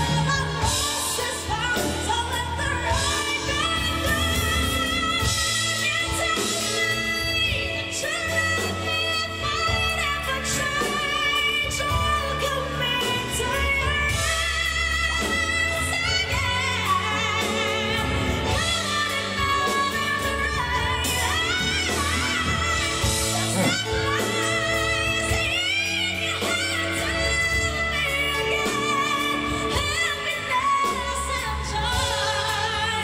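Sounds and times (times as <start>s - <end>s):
live band playing: 0.0s - 33.0s
woman singing: 0.0s - 33.0s.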